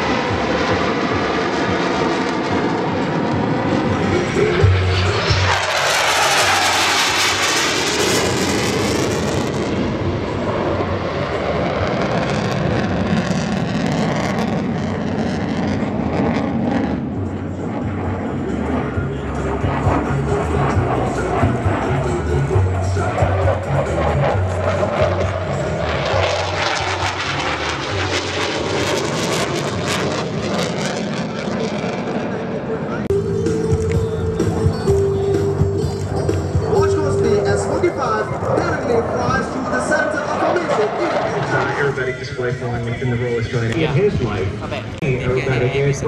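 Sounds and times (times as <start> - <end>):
jet engines roaring: 0.0 - 46.0.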